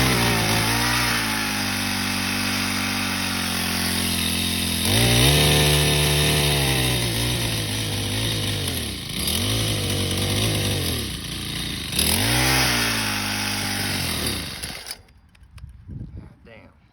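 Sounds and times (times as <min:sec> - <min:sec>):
small engine running unevenly: 0:00.0 - 0:15.1.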